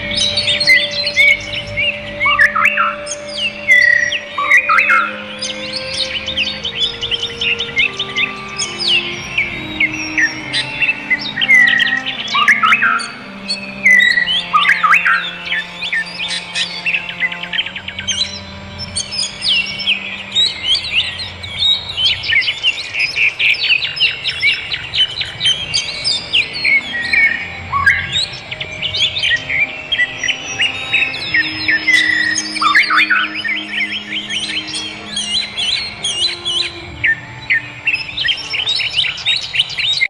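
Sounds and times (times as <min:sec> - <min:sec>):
birds chirping and twittering: 0:00.0 - 0:40.0
soft background music: 0:00.0 - 0:40.0.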